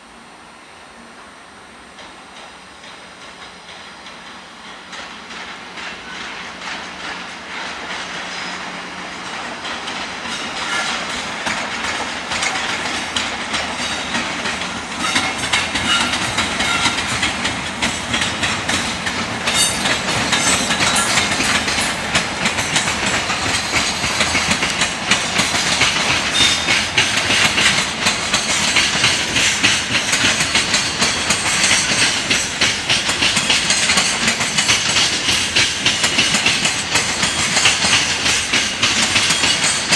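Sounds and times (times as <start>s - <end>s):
train wheels clacking over rail joints: 2.0s - 39.9s.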